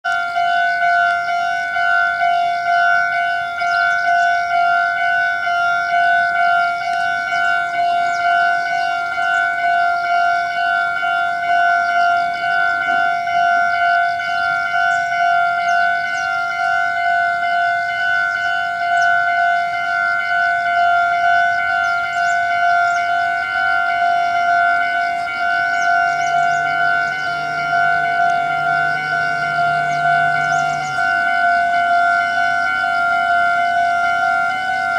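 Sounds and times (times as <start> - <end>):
level crossing warning bell: 0.0 - 34.9.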